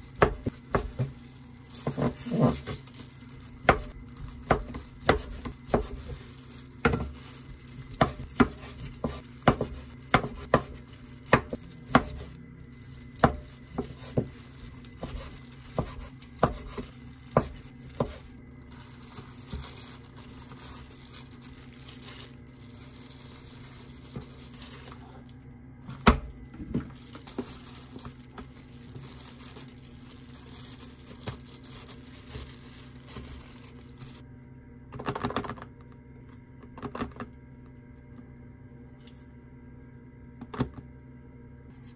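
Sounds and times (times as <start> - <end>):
plastic glove crinkling: 0.0 - 34.2.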